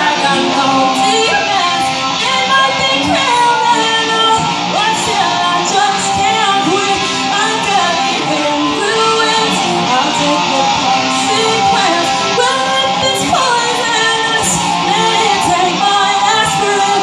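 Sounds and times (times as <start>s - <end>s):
electric guitar: 0.0s - 17.0s
woman singing into microphone: 0.0s - 17.0s.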